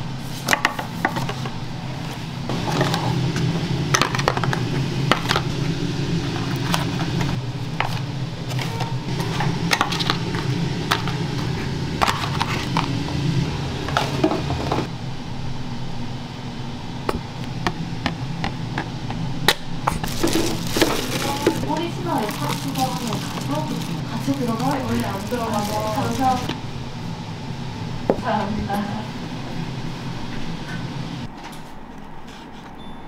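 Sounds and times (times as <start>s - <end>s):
steady low hum: 0.0s - 32.3s.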